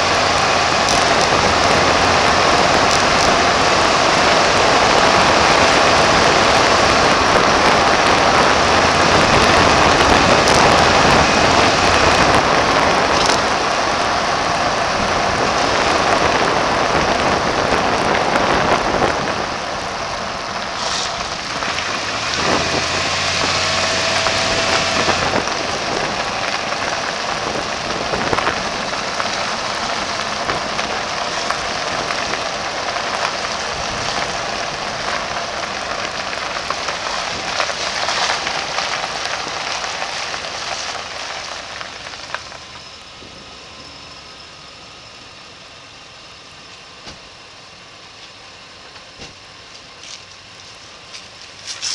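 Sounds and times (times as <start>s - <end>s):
wind rushing over microphone: 0.0s - 42.0s
tyre and road noise: 0.0s - 51.9s.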